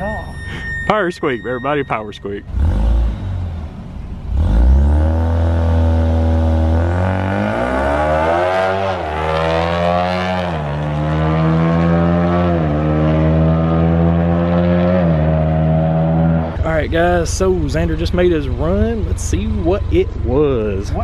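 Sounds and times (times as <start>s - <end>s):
car engine accelerating with gear shifts: 0.0s - 21.0s.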